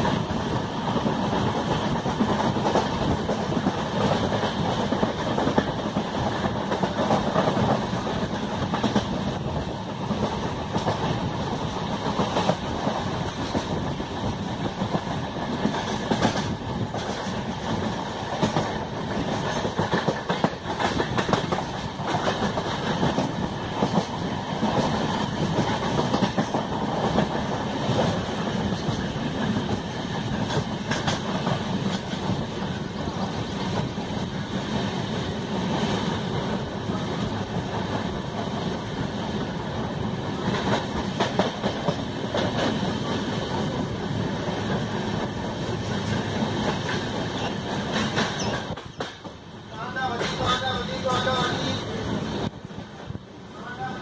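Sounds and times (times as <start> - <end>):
wheels clicking over rail joints: 0.0 - 34.4, 40.4 - 49.4
train wheels rumbling on rails: 0.0 - 54.0.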